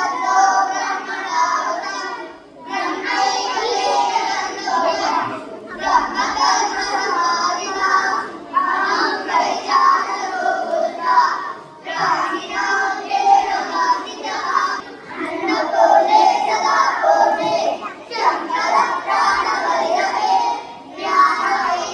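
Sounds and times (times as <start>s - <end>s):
children singing together: 0.0s - 21.9s.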